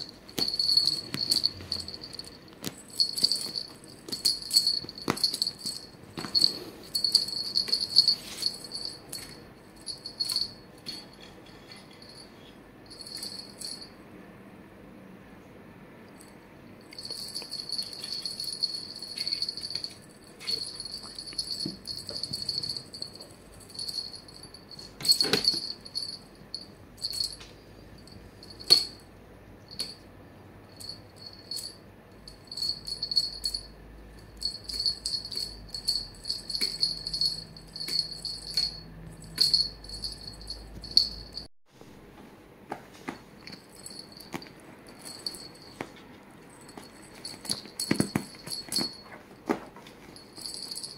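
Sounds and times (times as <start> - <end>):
small bell jingling: 0.0 - 14.0, 16.2 - 30.1, 30.7 - 41.5, 43.4 - 50.9.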